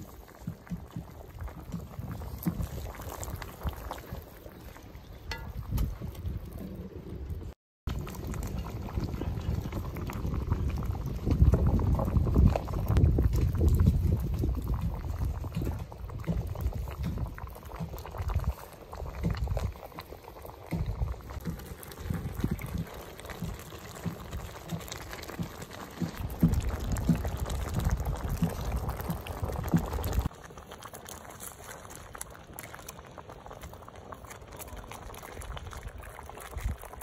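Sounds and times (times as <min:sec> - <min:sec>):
pot of broth boiling hard: 0:00.0 - 0:37.0.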